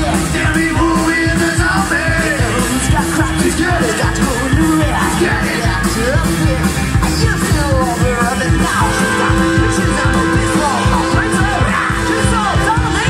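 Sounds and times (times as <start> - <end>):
keyboard: 0.0 - 13.0
live rock band playing: 0.0 - 13.0
steady drum beat: 0.0 - 13.0.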